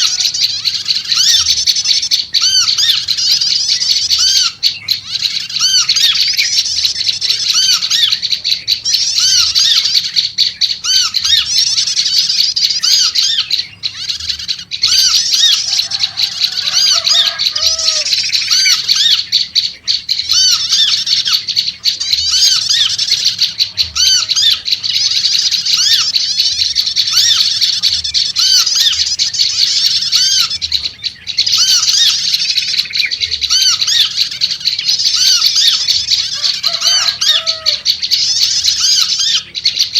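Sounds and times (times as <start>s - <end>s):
bird chattering squeaky notes: 0.0s - 39.9s
lower bird notes: 0.0s - 39.9s.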